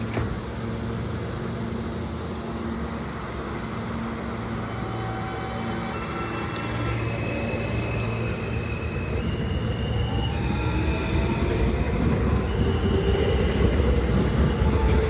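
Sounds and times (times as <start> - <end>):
subway train motors humming: 0.0 - 15.0
train propulsion whine: 0.6 - 15.0.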